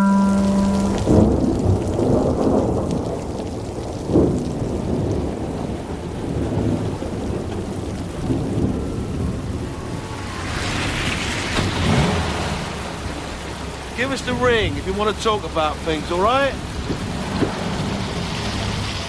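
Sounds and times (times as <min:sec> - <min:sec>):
heavy rain: 0:00.0 - 0:19.0
low rumble of thunder: 0:00.5 - 0:15.0, 0:16.5 - 0:19.0.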